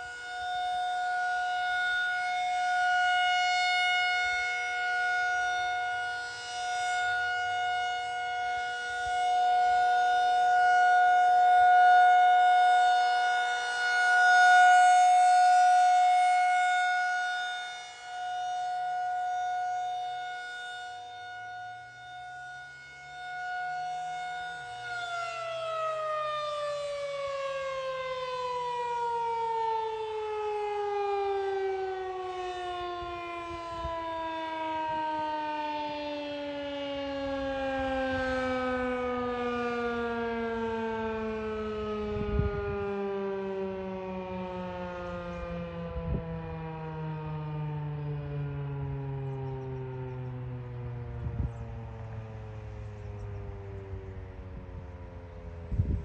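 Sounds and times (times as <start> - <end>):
rotating tornado siren: 0.0 - 56.0.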